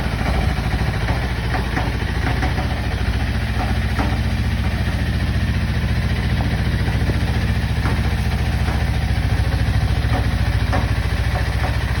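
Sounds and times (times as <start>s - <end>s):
diesel engine chugging: 0.0s - 12.0s
clattering knocks: 0.3s - 12.0s.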